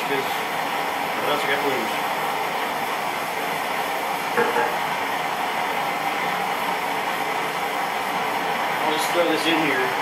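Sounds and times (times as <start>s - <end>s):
gas burner roaring hiss: 0.0s - 10.0s.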